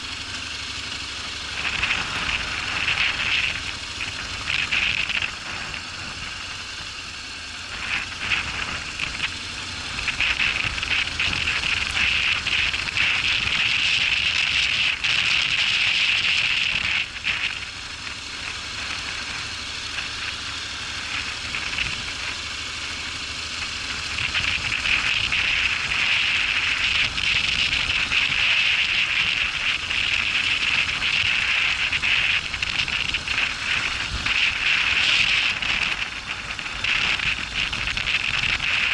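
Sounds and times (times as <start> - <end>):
tyres crackling on loose ground: 0.0 - 38.9
wind on microphone: 1.5 - 6.6, 7.6 - 22.5, 23.8 - 38.9.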